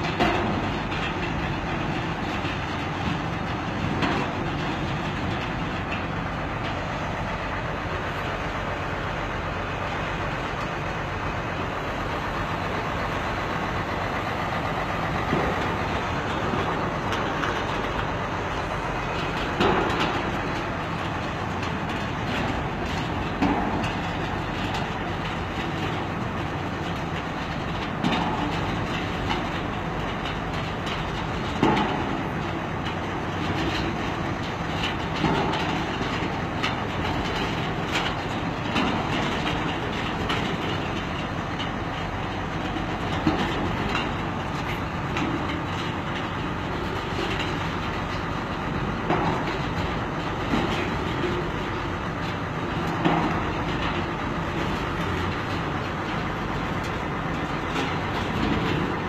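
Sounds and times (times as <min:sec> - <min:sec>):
machinery running: 0:00.0 - 0:59.0.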